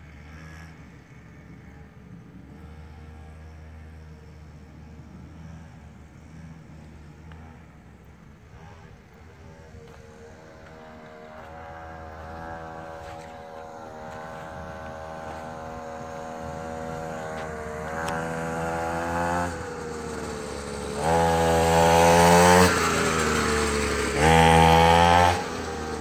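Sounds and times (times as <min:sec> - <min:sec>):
dirt bike engine passing: 0:00.0 - 0:26.0
engine throttle revving: 0:00.1 - 0:26.0.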